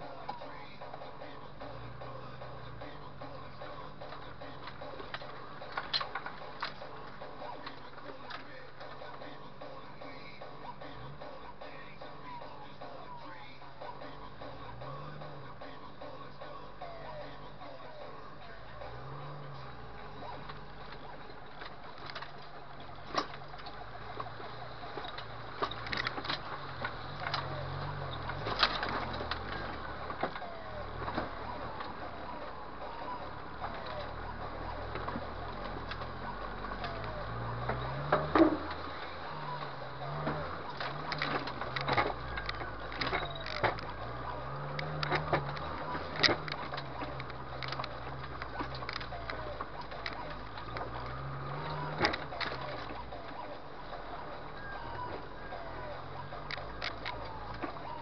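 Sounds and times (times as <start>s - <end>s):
off-road vehicle motor: 0.0s - 58.0s.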